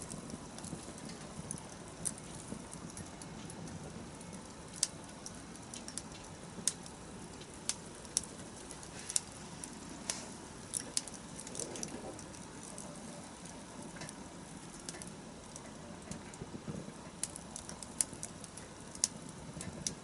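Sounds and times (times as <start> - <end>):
bonfire pops and snaps: 0.0 - 20.0
low rush of burning: 0.0 - 20.0.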